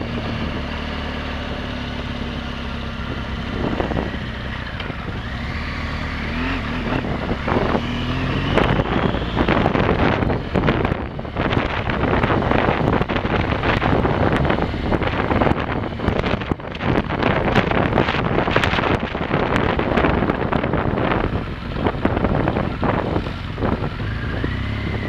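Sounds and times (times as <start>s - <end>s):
motorcycle engine running: 0.0s - 25.0s
wind noise on microphone: 1.8s - 25.0s
rattling and buffeting: 2.0s - 25.0s.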